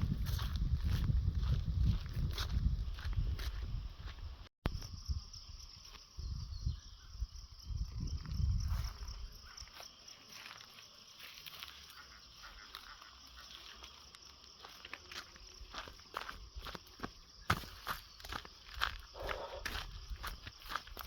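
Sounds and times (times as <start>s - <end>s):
high insect drone: 4.0s - 21.0s.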